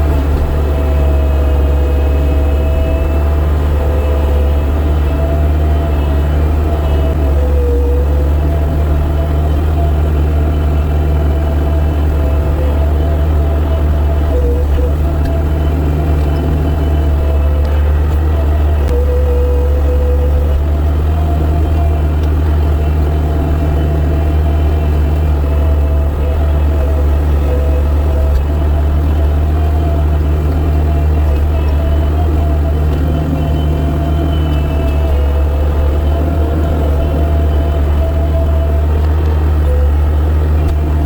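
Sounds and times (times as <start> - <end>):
skid steer engine running: 0.0 - 41.0.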